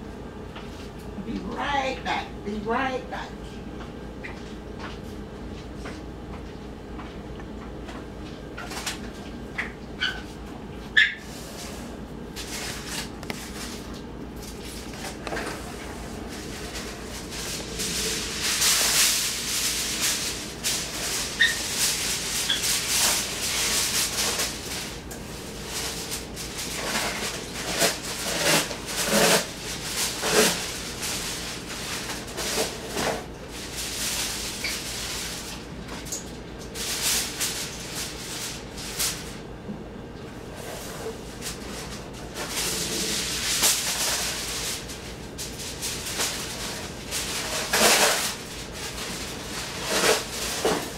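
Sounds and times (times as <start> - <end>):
steady low hum: 0.0 - 50.9
rustling and scraping: 8.2 - 39.4, 40.4 - 50.9.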